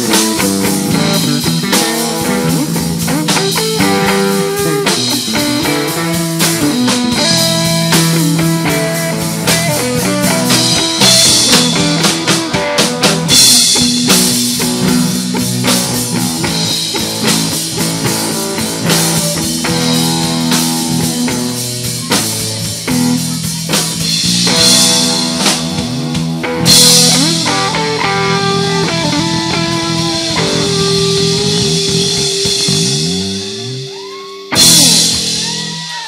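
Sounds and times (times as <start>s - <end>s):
bass guitar: 0.0s - 36.0s
drum kit: 0.0s - 36.0s
electric guitar: 0.0s - 36.0s.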